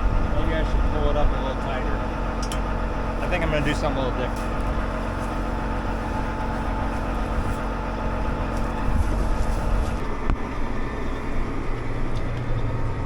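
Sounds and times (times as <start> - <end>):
farm machinery engine running: 0.0 - 13.0.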